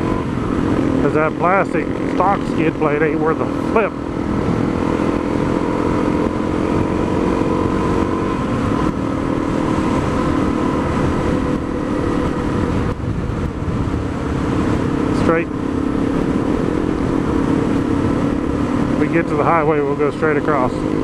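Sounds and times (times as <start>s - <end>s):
motorcycle engine running: 0.0s - 21.0s
wind rush on microphone: 0.0s - 21.0s.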